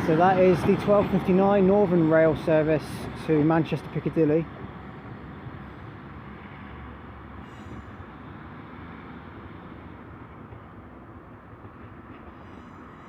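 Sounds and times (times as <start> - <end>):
train diesel engines running: 0.0 - 13.0.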